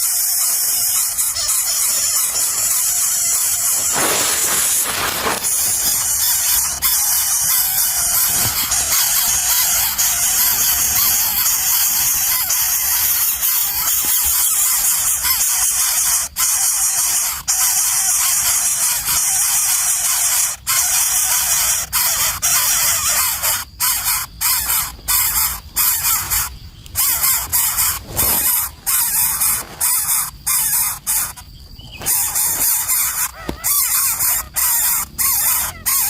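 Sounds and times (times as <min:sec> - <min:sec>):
nestlings begging raspy hissing: 0:00.0 - 0:36.0.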